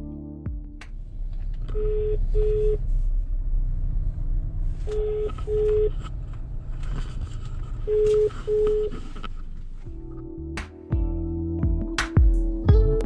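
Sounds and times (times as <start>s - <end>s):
car low rumble: 0.0s - 13.0s.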